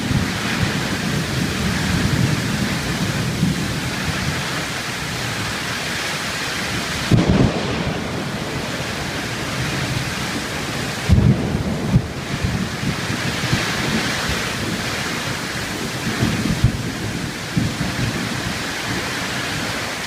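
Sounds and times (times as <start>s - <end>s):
heavy rain pouring: 0.0s - 20.0s
thunder rumbling: 0.0s - 20.0s.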